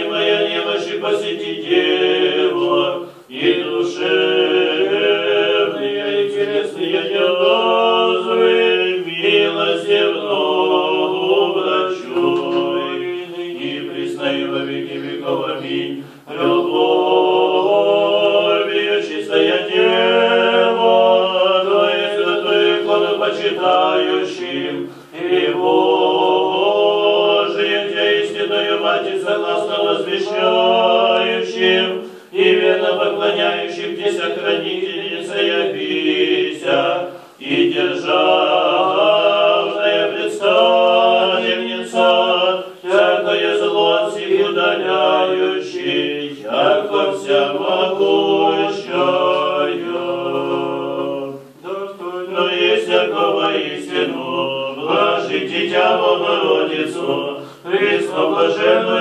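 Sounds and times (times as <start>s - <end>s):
group of voices chanting: 0.0s - 59.0s.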